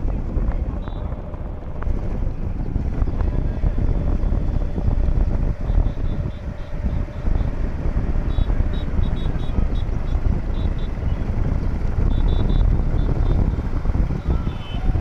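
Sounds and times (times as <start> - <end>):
motorcycles rumbling: 0.0 - 15.0.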